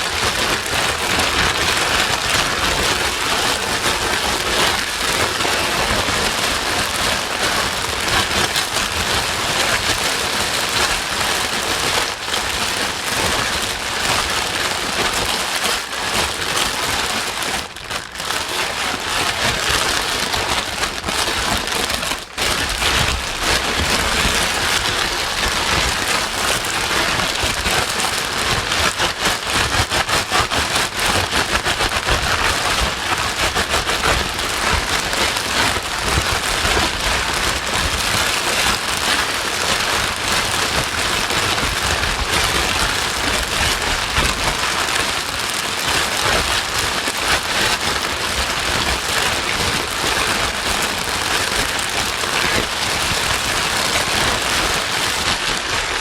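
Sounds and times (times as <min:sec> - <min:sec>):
white noise with rain-like patter: 0:00.0 - 0:56.0.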